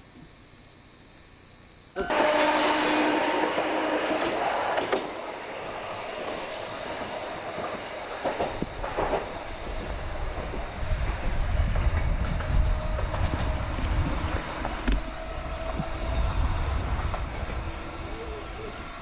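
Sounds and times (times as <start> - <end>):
tram wheels rolling on rails: 2.0 - 19.0
wheels clicking over rail joints: 2.0 - 19.0.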